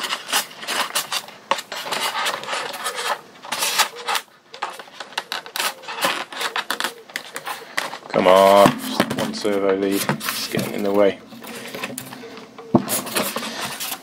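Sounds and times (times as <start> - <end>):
foam parts rubbing and clicking: 0.0 - 14.0.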